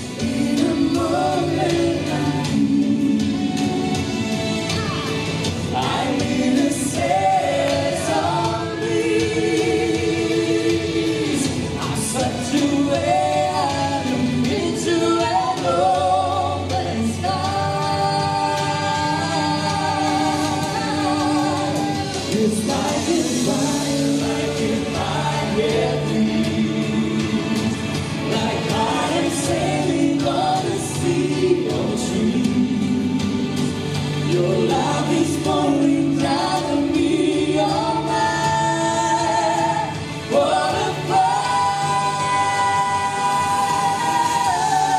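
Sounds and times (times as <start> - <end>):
band backing: 0.0 - 44.9
choir-like backing voices: 0.0 - 44.9
male and female duo singing: 0.0 - 44.9.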